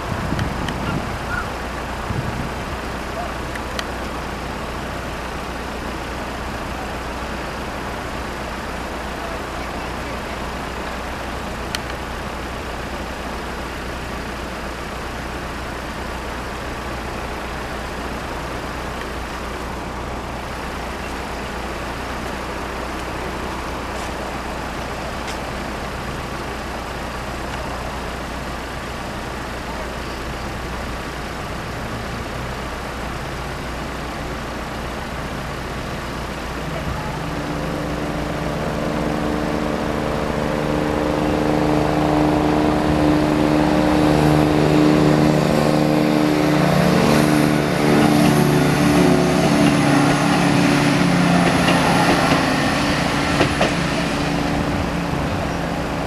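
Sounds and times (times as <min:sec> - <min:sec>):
traffic noise: 0:00.0 - 0:56.0
vehicle engines idling: 0:00.0 - 0:56.0.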